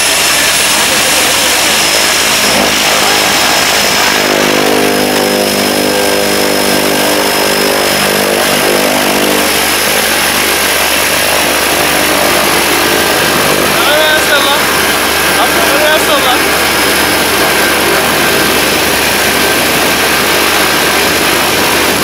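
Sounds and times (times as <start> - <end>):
turboprop engine droning: 0.0 - 22.0.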